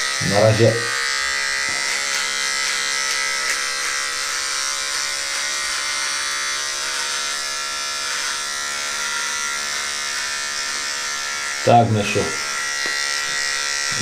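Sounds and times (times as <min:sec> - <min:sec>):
electric beard trimmer buzzing: 0:00.0 - 0:14.0.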